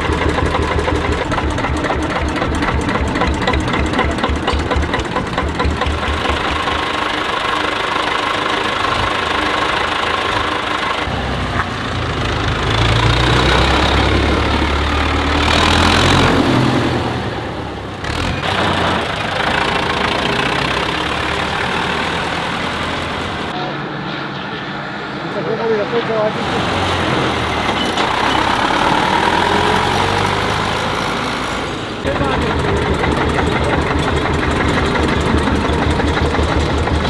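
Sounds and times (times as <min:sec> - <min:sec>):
heavy engine: 0:00.0 - 0:37.0
tractor engines chugging: 0:00.0 - 0:37.0.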